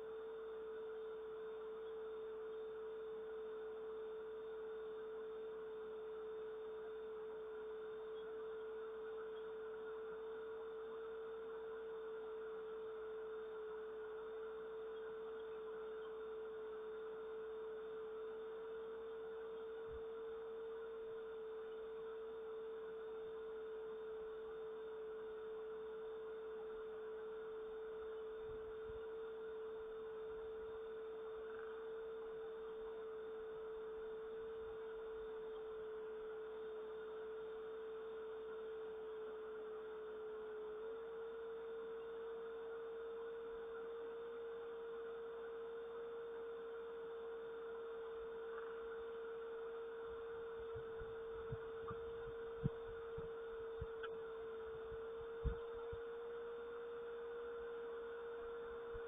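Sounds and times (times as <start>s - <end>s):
steady pure tone: 0.0s - 59.0s.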